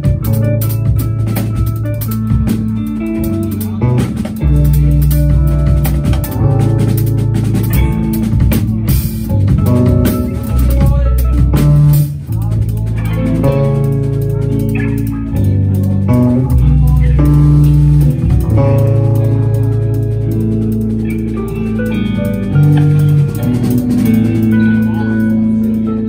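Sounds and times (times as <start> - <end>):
bass notes: 0.0 - 26.0
drum kit playing: 0.0 - 26.0
electric guitar: 0.0 - 26.0.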